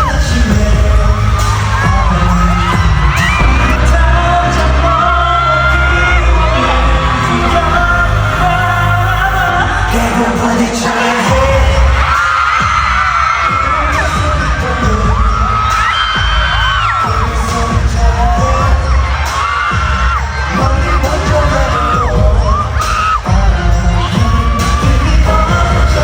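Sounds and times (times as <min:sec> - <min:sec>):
person singing: 0:00.0 - 0:12.7, 0:13.4 - 0:26.0
pop song through loudspeakers: 0:00.0 - 0:26.0.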